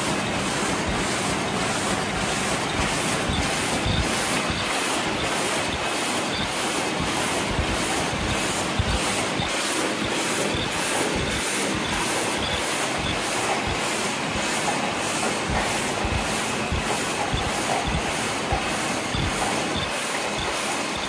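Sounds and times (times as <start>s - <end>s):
paper cup machines clattering: 0.0s - 21.0s.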